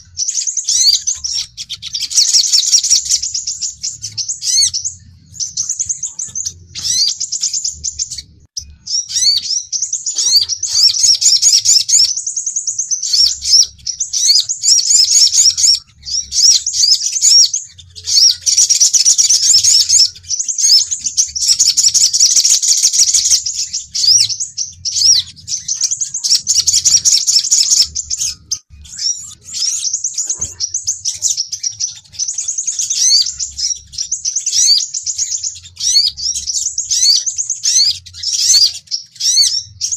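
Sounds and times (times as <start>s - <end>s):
sunbird high-pitched twitter: 0.0s - 39.9s.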